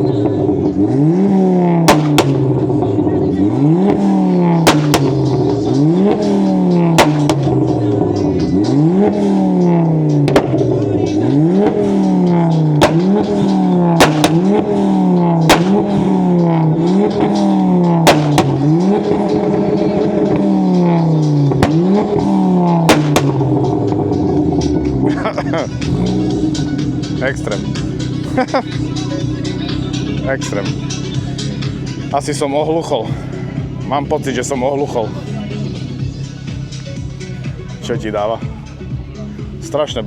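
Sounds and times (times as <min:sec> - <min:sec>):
car engine revving: 0:00.0 - 0:40.0
loud exhaust bangs: 0:00.0 - 0:40.0.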